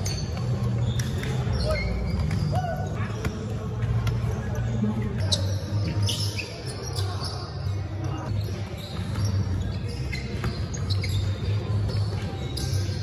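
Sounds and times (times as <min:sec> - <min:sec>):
sneakers squeaking: 0:00.0 - 0:13.0.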